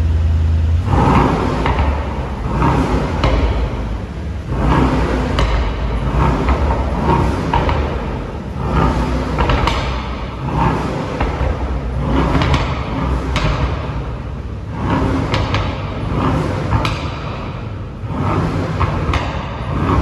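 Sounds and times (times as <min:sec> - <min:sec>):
car engine revving: 0:00.0 - 0:20.0
exhaust cracks and pops: 0:00.8 - 0:20.0.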